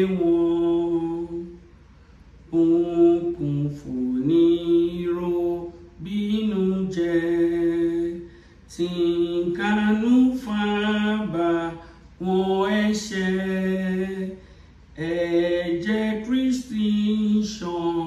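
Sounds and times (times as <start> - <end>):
woman singing a hymn unaccompanied: 0.0 - 1.6, 2.5 - 14.4, 15.0 - 18.0.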